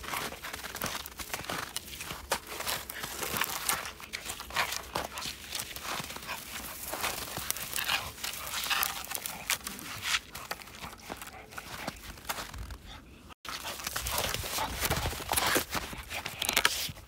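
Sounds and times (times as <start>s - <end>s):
snow crunching and scuffling: 0.0s - 16.9s
dog panting: 2.0s - 16.6s.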